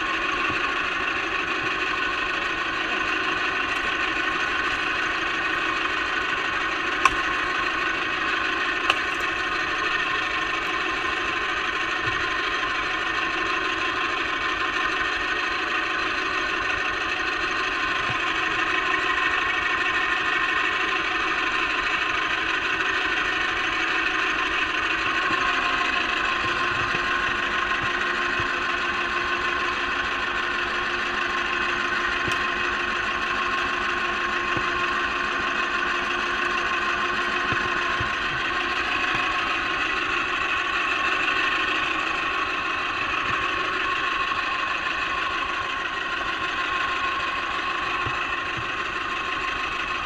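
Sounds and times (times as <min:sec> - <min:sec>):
boat motor droning: 0:00.0 - 0:50.0.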